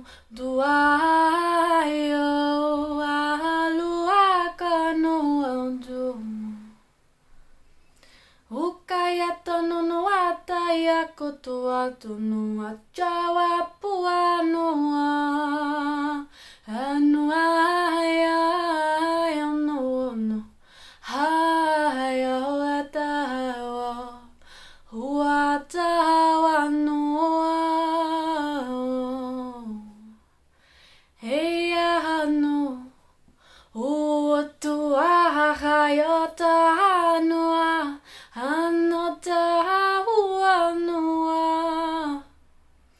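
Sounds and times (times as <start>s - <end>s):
woman singing wordless phrases: 0.0s - 6.8s, 8.5s - 30.2s, 31.2s - 33.0s, 33.7s - 42.4s.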